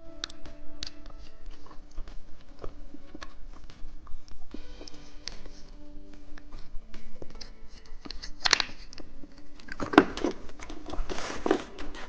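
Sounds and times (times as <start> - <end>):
background music with held notes: 0.0 - 12.0
crackling and clicking bursts: 0.0 - 12.0.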